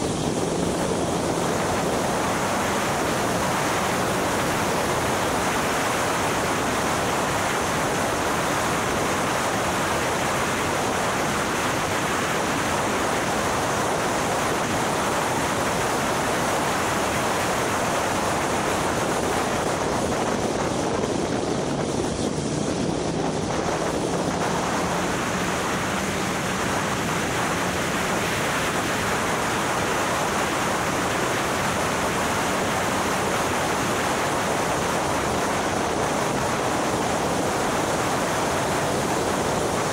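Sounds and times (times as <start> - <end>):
wind noise over microphone: 0.0 - 39.9.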